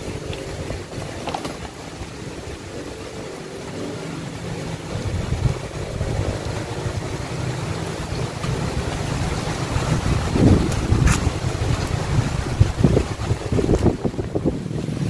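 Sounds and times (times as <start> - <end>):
engine running: 0.0 - 15.0
wind rumble on microphone: 0.0 - 15.0.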